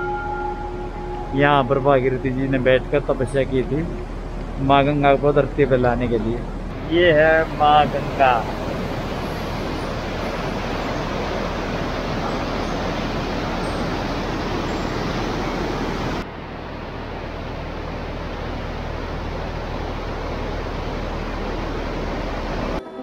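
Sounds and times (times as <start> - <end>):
river rushing: 0.0 - 22.8.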